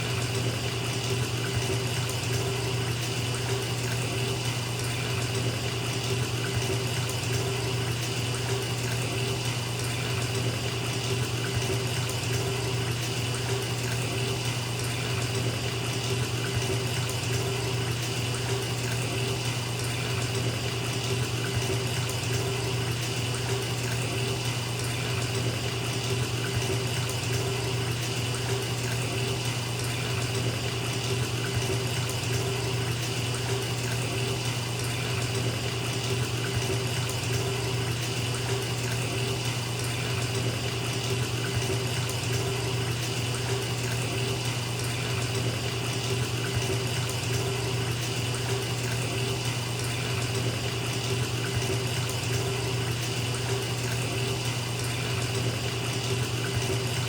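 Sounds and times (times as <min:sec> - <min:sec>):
water pouring into a bathtub: 0:00.0 - 0:57.0.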